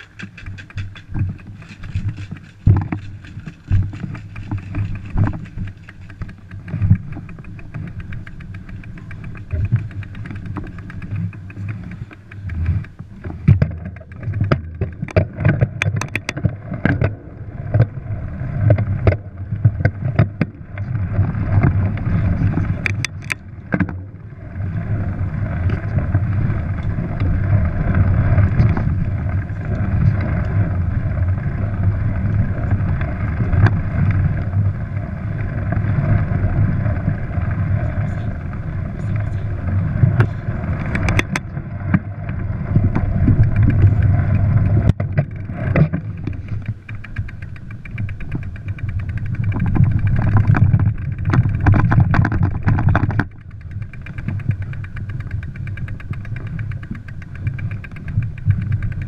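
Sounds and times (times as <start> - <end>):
bike rattles clicks and knocks: 0.0 - 59.0
mountain bike rumbling on dirt trail: 0.0 - 59.0.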